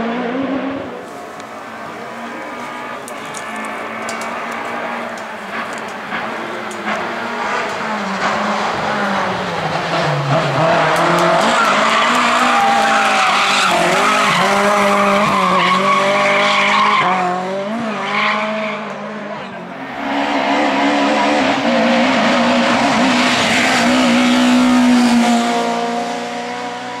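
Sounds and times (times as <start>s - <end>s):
rally car engine revving past: 0.0s - 27.0s.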